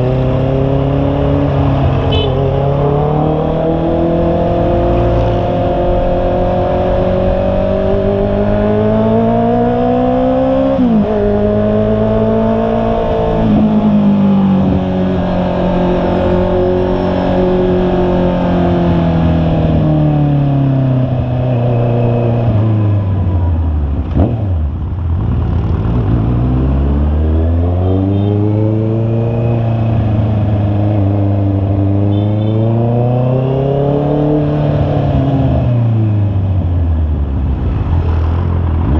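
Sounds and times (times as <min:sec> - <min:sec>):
motorcycle engine revving: 0:00.0 - 0:36.6.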